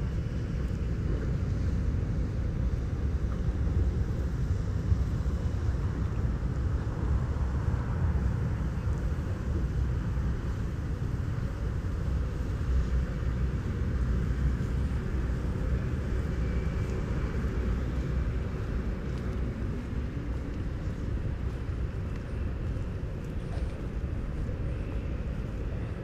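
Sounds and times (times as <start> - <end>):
vehicle engine noise: 0.0 - 26.0.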